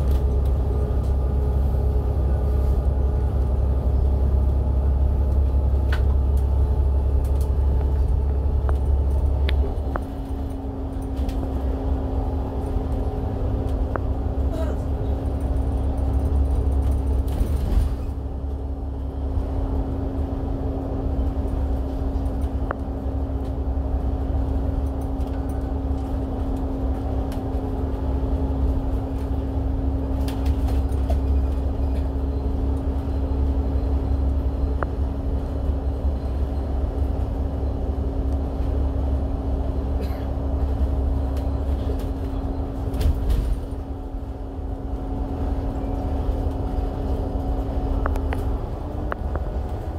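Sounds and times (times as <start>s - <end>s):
bus engine and road rumble: 0.0s - 49.9s
constant hum: 0.0s - 49.9s.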